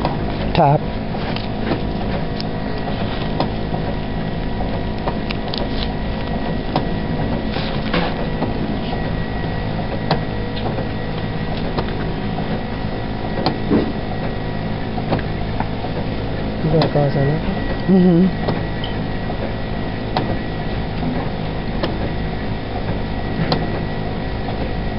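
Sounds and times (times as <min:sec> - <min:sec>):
hum of running machinery: 0:00.0 - 0:24.9.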